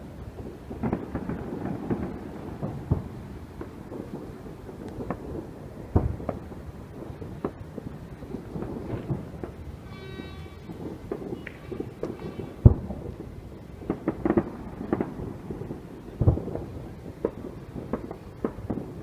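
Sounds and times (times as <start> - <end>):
deep firework booms: 0.0 - 19.0
fireworks bangs and crackles: 0.0 - 19.0.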